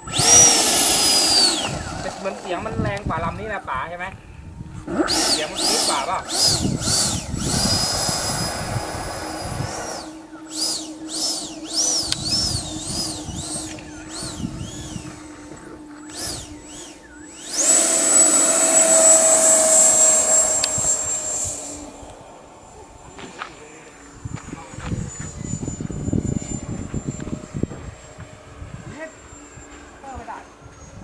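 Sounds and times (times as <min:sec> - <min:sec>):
electric ducted fan whining: 0:00.0 - 0:31.0.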